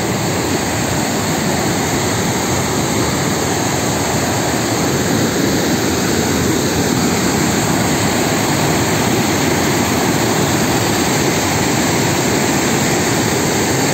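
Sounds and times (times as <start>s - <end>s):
water rushing over rock: 0.0s - 13.9s.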